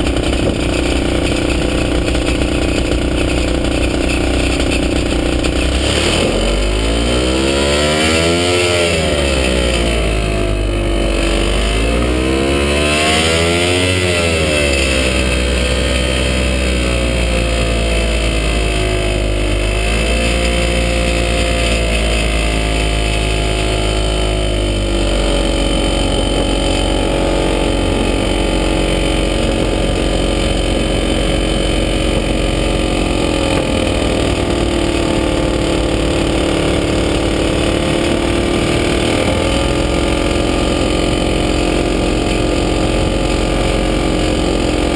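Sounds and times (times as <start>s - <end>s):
ultralight aircraft engine: 0.0s - 44.9s.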